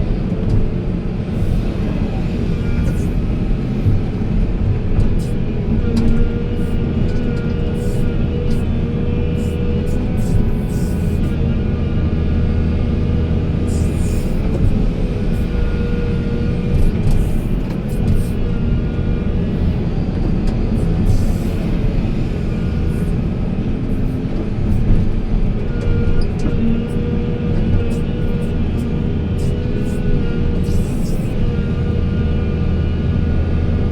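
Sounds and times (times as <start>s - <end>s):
heavy machinery engine rumbling: 0.0s - 33.9s.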